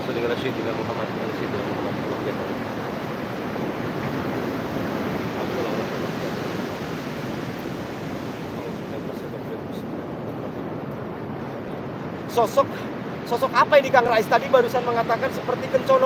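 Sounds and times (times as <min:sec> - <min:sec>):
ocean surf: 0:00.0 - 0:16.0
wind on microphone: 0:00.0 - 0:16.0.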